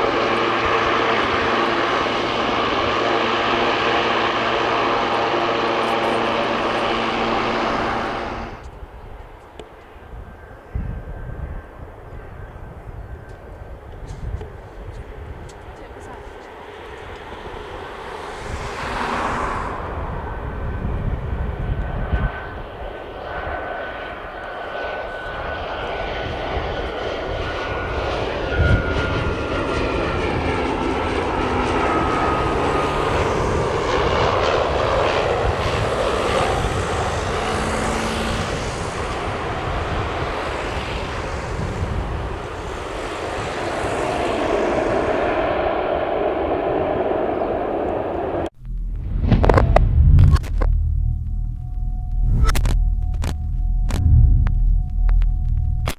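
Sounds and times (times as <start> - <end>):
high whine sliding down in pitch: 0.0 - 8.7, 16.8 - 22.6, 25.5 - 55.9
light aircraft engine passing: 0.0 - 55.9.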